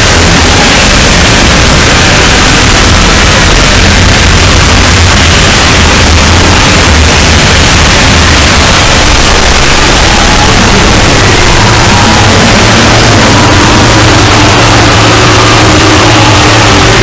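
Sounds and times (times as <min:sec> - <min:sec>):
harsh distorted noise with rumble: 0:00.0 - 0:17.0.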